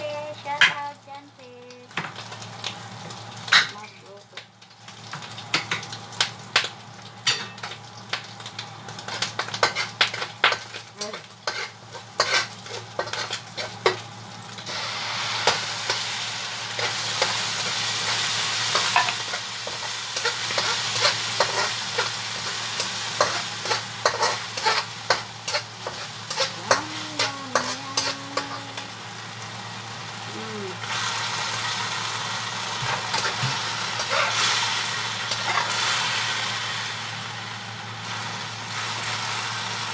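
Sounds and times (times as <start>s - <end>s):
food sizzling in a hot pan: 0.0s - 39.9s.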